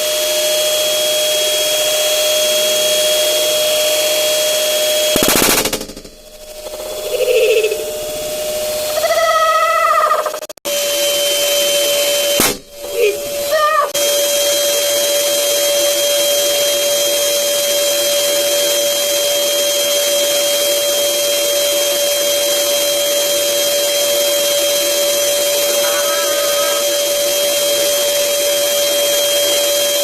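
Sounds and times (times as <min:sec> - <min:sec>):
electric air blower running: 0:00.0 - 0:09.7, 0:10.7 - 0:30.0.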